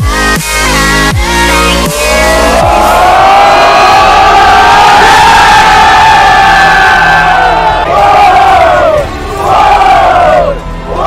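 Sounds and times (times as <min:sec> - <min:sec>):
electronic dance music: 0:00.0 - 0:11.0
group of men yelling: 0:01.9 - 0:11.0.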